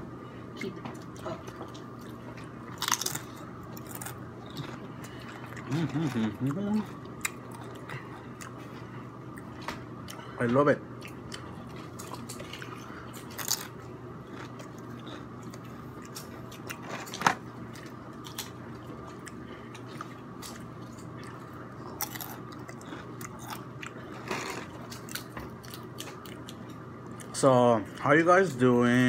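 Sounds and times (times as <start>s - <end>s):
low steady hum: 0.0s - 29.0s
chips crunching while chewed: 1.0s - 8.6s, 11.0s - 27.4s.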